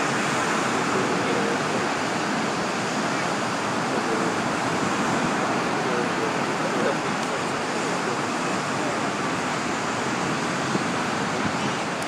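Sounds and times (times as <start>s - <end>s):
surf breaking on a beach: 0.0s - 12.0s
faint crowd voices: 0.8s - 12.0s.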